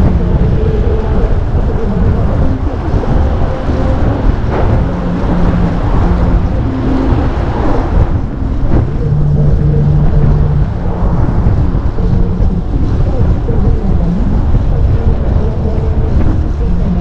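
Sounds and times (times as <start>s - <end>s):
motor vehicles running: 0.0s - 17.0s
wind rumbling on microphone: 0.0s - 17.0s.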